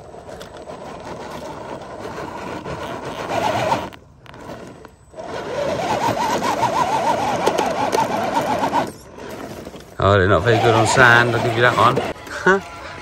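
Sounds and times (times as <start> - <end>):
electric motor whining: 0.0 - 12.9
tyres scrabbling in sandy dirt: 0.0 - 13.0.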